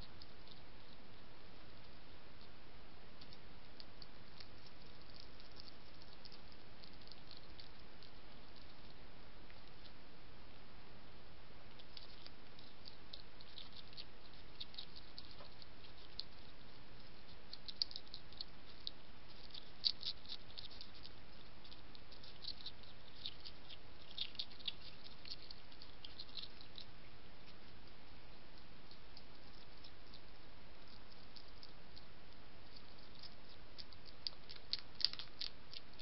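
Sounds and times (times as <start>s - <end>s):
background hiss: 0.0s - 36.0s
hedgehog crunching biscuits: 3.2s - 10.0s, 11.7s - 36.0s.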